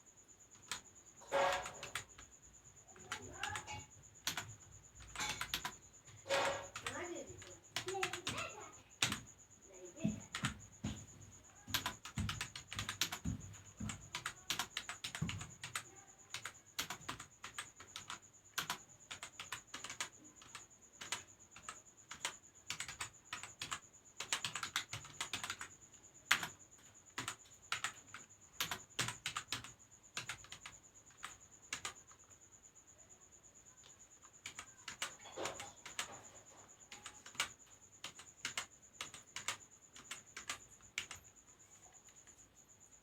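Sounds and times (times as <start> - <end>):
computer keyboard typing: 0.6 - 9.3, 10.0 - 32.4, 33.7 - 42.4.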